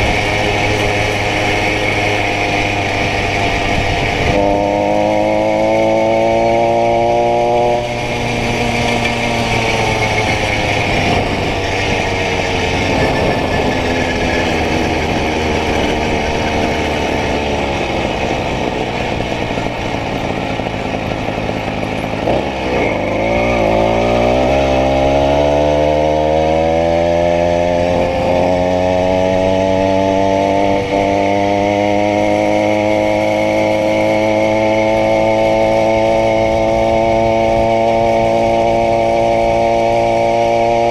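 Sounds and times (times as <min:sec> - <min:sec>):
small two-stroke engine running: 0:00.0 - 0:40.9.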